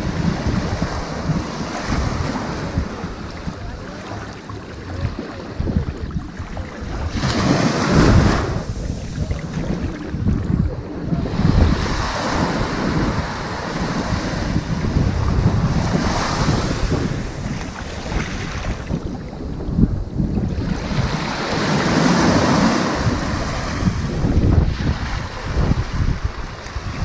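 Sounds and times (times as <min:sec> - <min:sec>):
ocean waves on sandy beach: 0:00.0 - 0:27.0.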